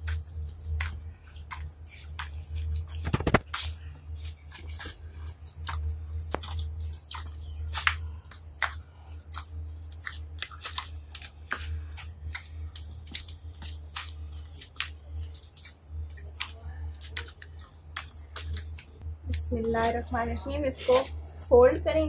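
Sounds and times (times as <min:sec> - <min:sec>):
hands kneading sticky dough: 0:00.0 - 0:22.0
steady low hum: 0:00.0 - 0:22.0.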